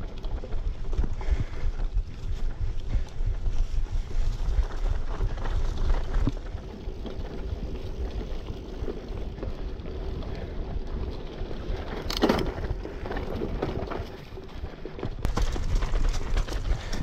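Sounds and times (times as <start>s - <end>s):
bicycle frame rattling: 0.0s - 17.0s
bicycle tyres on dirt and leaves: 0.0s - 17.0s.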